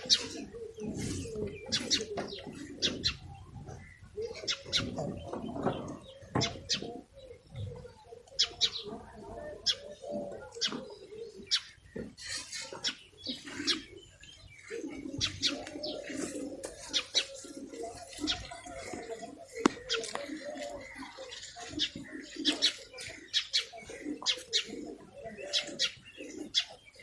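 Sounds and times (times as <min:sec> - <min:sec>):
nestling birds chirping: 0:00.0 - 0:27.0
soft low bird calls: 0:00.0 - 0:27.0.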